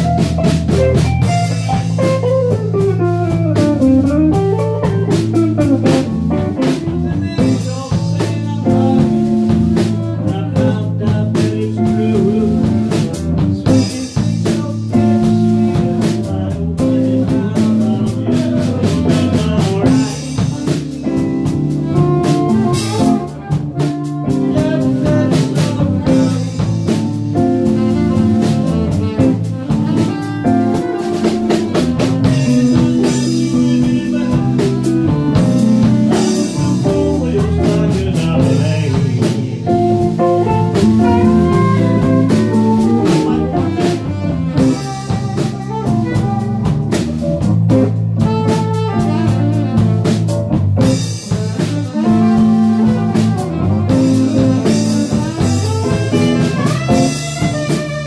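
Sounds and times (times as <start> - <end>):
live blues band: 0.0 - 58.0.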